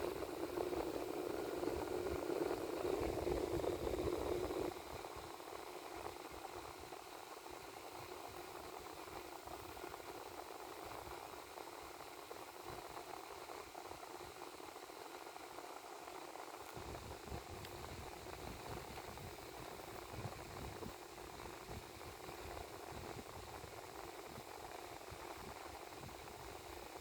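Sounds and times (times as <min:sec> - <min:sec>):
cooling fan whirring: 0:00.0 - 0:27.0.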